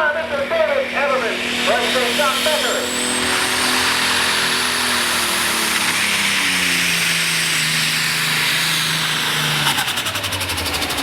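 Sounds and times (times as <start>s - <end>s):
high turbo whine: 0.0s - 11.0s
tractor engine running hard: 0.0s - 11.0s.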